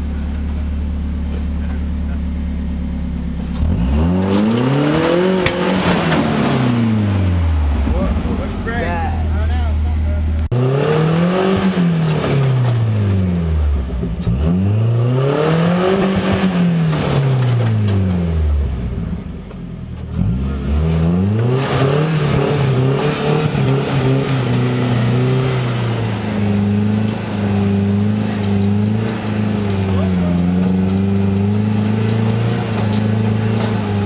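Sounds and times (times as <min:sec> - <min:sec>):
truck engine revving: 0:00.0 - 0:19.3, 0:20.0 - 0:34.0.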